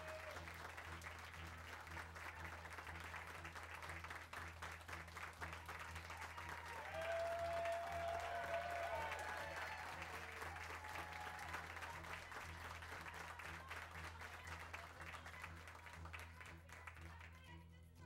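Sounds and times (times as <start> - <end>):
audience applause: 0.0 - 17.2.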